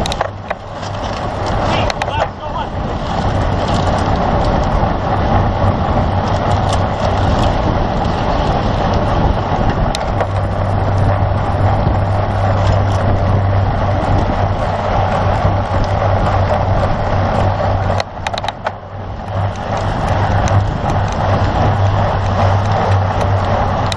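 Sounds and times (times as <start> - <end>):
low constant hum: 0.0 - 23.9
tyre and road noise: 0.0 - 23.9
wind over microphone: 0.0 - 23.9.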